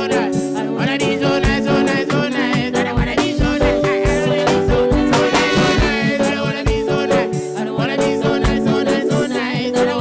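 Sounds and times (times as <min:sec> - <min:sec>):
live reggae band playing: 0:00.0 - 0:10.0.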